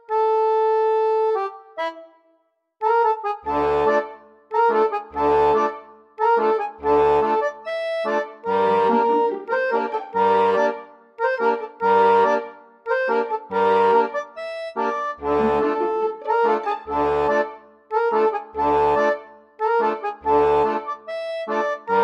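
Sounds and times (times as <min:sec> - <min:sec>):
accordion music: 0:00.0 - 0:22.0.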